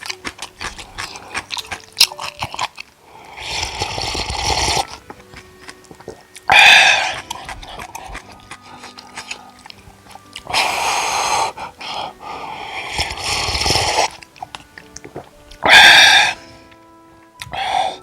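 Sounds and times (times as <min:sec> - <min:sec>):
slurping noodles: 0:00.0 - 0:16.6
chewing: 0:00.0 - 0:18.0.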